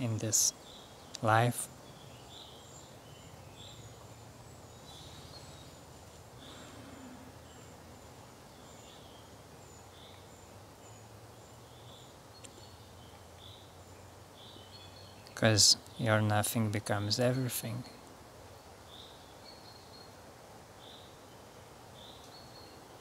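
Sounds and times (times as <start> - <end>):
distant bird chirps: 0.0 - 23.0
low steady hum: 0.0 - 23.0.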